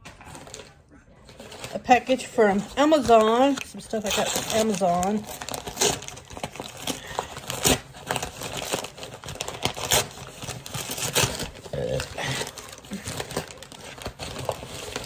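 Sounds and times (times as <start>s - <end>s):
packaging ripping: 0.0s - 15.0s
packaging rustling and crackling: 0.0s - 15.0s.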